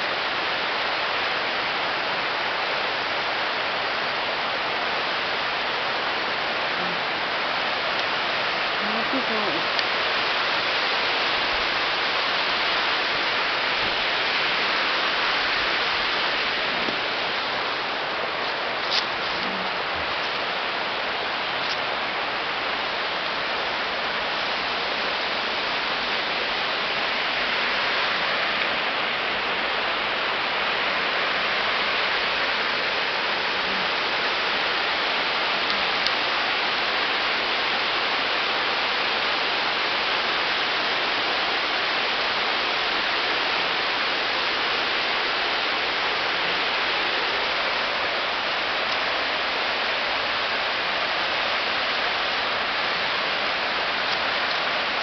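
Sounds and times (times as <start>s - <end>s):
rushing mountain stream: 0.0s - 55.0s.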